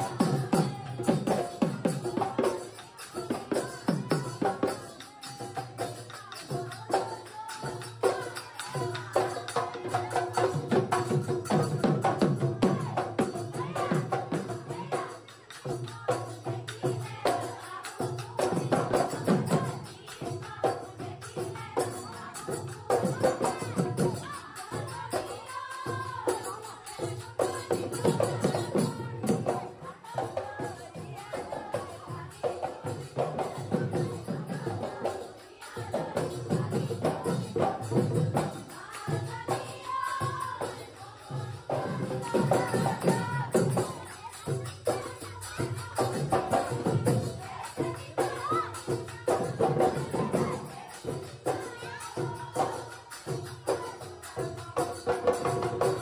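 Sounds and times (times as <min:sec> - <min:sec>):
background music with percussion: 0:00.0 - 0:56.0.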